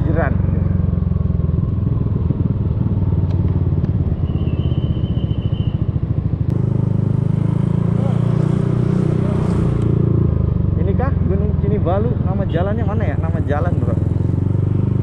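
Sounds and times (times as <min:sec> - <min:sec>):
scooter engine running: 0:00.3 - 0:15.0.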